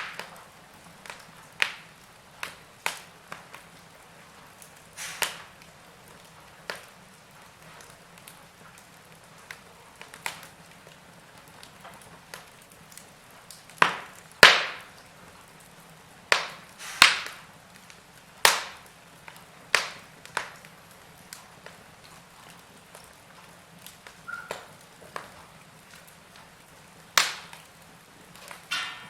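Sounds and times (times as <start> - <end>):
logs crackling in fireplace: 0.0 - 29.0.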